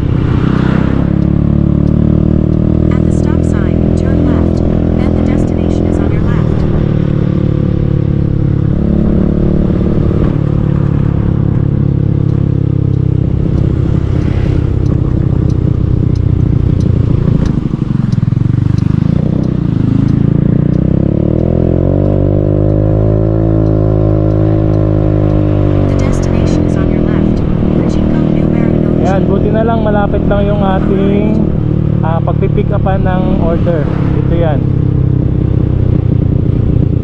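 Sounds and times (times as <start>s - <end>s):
motor scooter engine: 0.0s - 37.0s.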